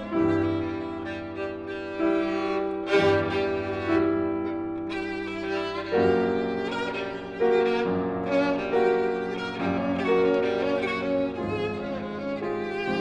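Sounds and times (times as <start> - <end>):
piano: 0.0 - 13.0
violin long held notes: 0.0 - 13.0.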